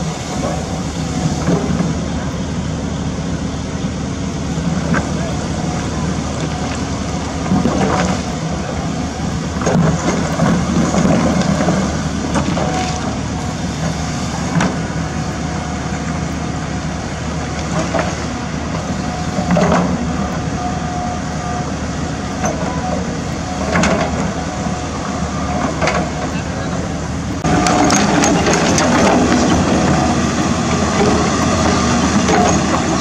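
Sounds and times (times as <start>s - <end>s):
diesel engines running: 0.0s - 33.0s.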